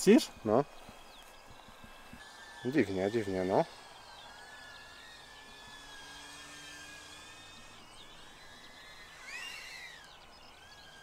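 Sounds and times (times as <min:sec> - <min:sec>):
drone whining in flight: 0:00.0 - 0:11.0.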